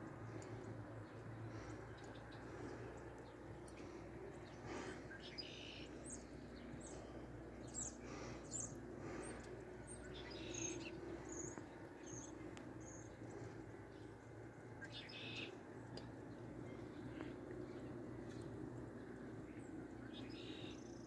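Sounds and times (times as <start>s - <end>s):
faint background hum: 0.0s - 21.0s
small birds chirping: 0.0s - 21.0s.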